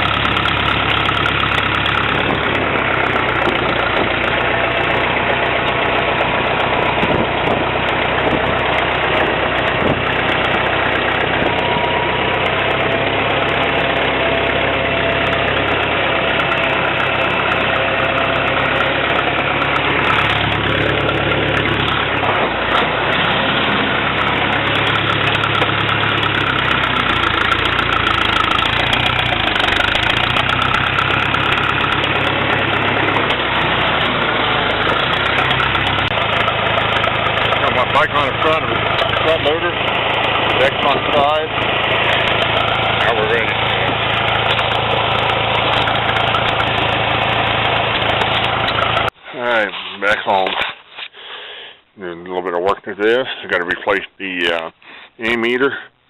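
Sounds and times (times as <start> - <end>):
tractor engine running: 0.0 - 50.7.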